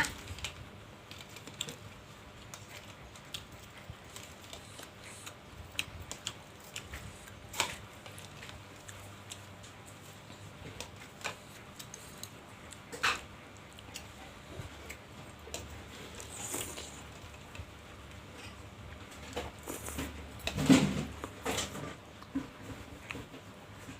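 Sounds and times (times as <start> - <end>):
person chewing: 1.1 - 21.4.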